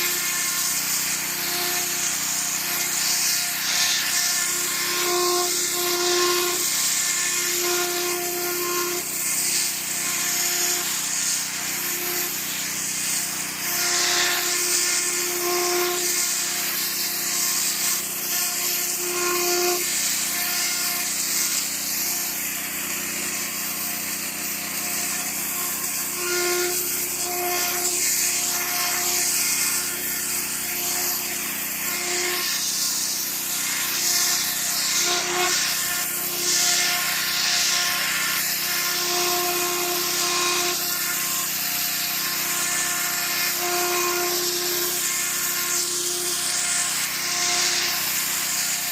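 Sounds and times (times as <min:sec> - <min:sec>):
pressure washer pump humming: 0:00.0 - 0:48.9
water jet hissing: 0:00.0 - 0:48.9.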